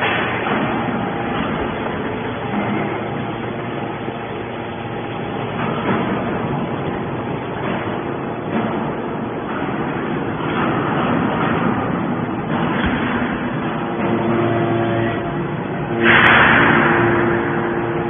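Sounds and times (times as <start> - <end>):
scrap metal baler drone: 0.0 - 18.0.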